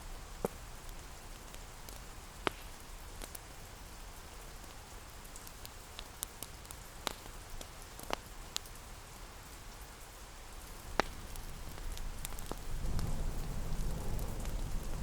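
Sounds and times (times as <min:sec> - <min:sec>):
rain pattering: 0:00.0 - 0:15.0
sharp crackles and ticks: 0:00.4 - 0:15.0.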